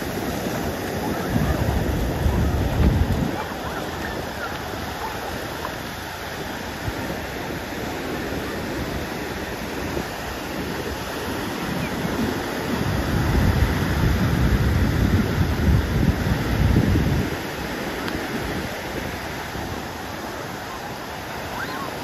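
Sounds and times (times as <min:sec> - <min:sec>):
wind buffeting microphone: 0:00.0 - 0:20.7
surf breaking on beach: 0:00.0 - 0:22.0.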